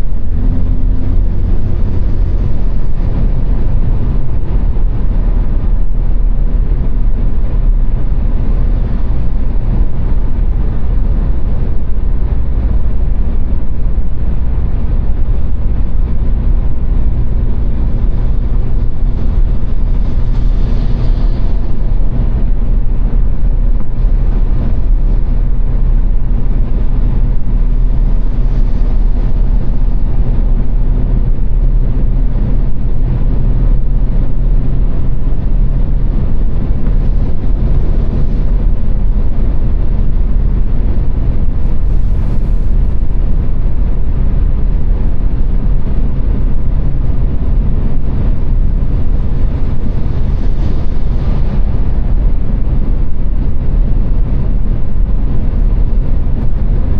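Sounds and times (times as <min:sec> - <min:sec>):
car road and engine noise: 0:00.0 - 0:56.9
low hum: 0:00.0 - 0:56.9.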